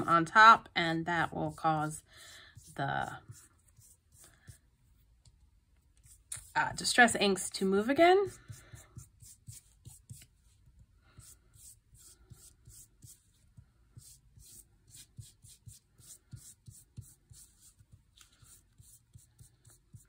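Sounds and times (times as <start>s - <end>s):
paintbrush strokes on paper: 1.0s - 20.0s.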